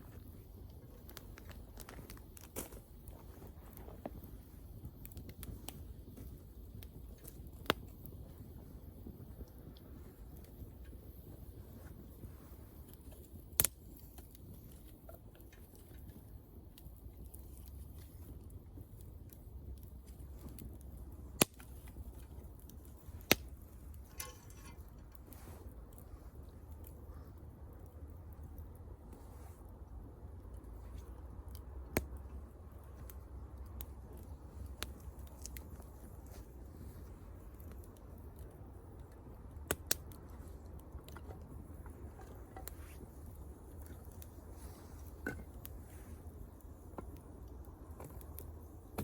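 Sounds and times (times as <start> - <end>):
fire pops and snaps: 0.0 - 49.0
wood bonfire crackling: 0.0 - 49.0.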